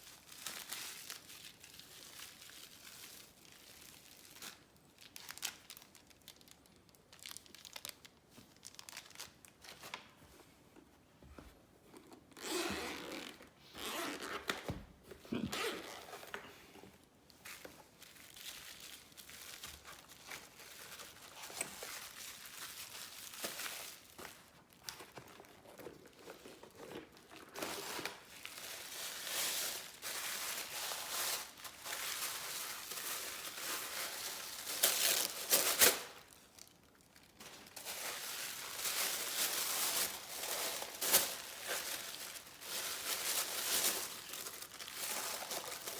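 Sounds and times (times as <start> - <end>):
plastic and paper crinkling: 0.0 - 45.9.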